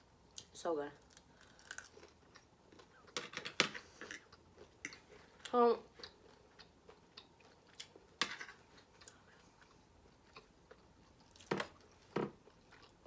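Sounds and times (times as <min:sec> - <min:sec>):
person chewing food: 0:01.1 - 0:03.2, 0:03.8 - 0:13.0.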